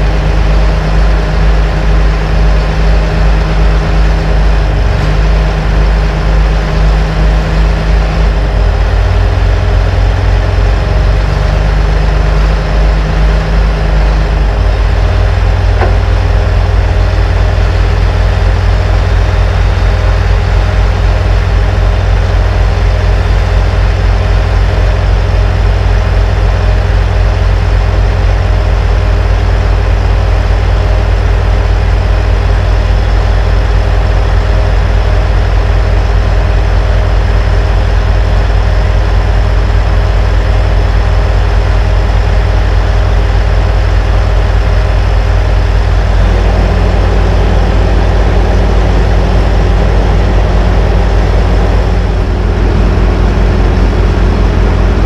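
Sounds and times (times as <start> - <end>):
dozer diesel engine running: 0.0 - 55.0.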